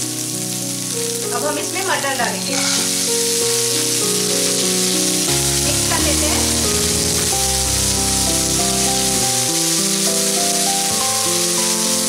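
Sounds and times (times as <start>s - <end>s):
instrumental background music: 0.0s - 12.0s
peas sizzling in hot oil: 0.0s - 12.0s.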